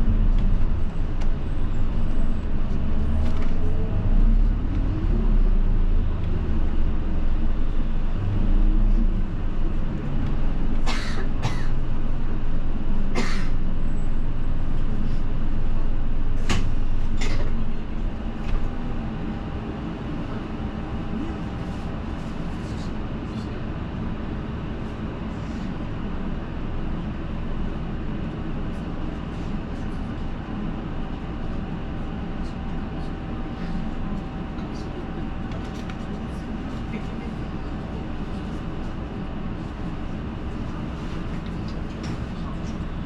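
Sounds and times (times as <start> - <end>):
bus engine and road noise: 0.0 - 43.0.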